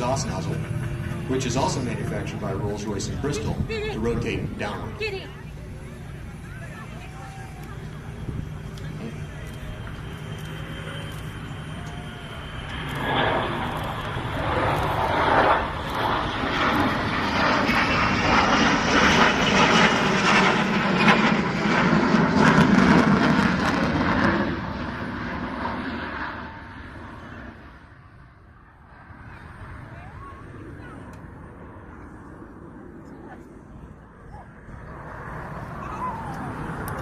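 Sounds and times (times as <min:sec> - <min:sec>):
faint jet whine: 0:00.0 - 0:37.0
jet engine noise: 0:00.0 - 0:37.0.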